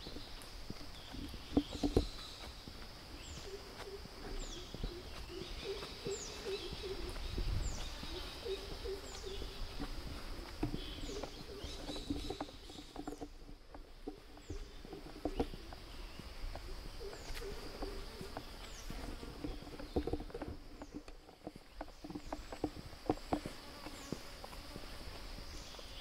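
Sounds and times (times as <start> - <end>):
footsteps on dirt road: 0.0 - 26.0
insects droning: 0.0 - 26.0.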